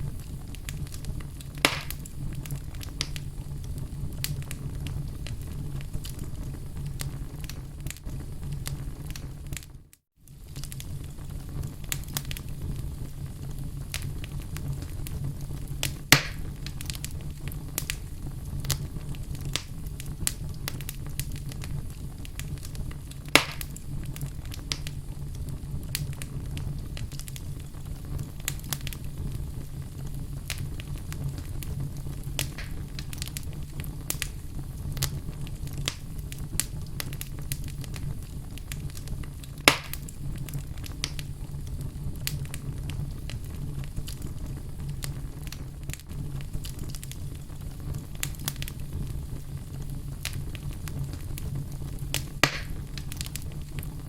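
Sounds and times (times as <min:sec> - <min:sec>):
loud fire pops: 0:00.0 - 0:54.0
low rumble of fire: 0:00.0 - 0:54.0
wood fire crackling: 0:00.0 - 0:54.0.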